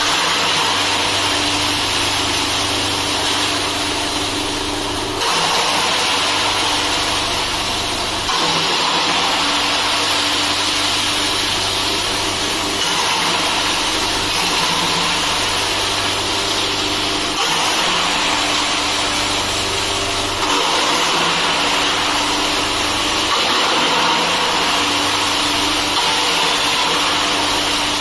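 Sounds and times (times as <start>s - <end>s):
wood chipper grinding: 0.0s - 28.0s.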